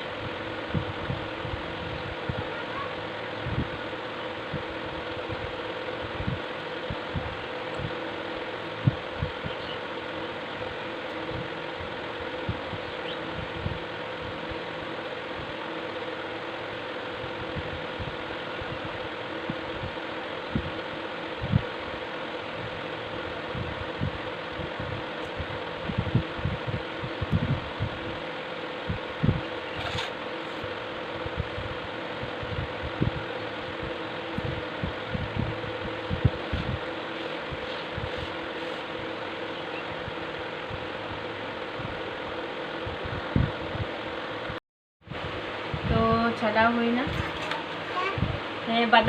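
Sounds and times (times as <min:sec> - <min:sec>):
machine hum with tones: 0:00.0 - 0:49.0.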